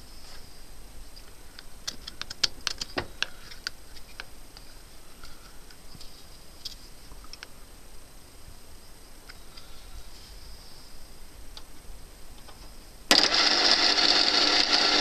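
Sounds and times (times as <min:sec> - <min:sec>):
faint high whine: 0:00.0 - 0:01.9, 0:02.8 - 0:15.0.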